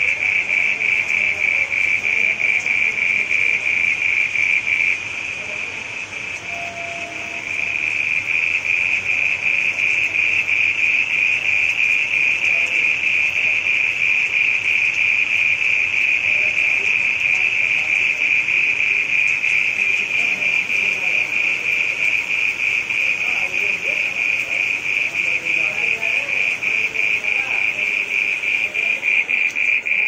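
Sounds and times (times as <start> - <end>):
frog trilling: 0.0 - 30.0.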